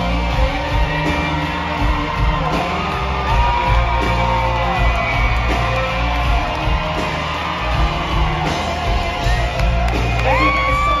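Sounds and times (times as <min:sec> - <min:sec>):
live country-rock band: 0:00.0 - 0:11.0.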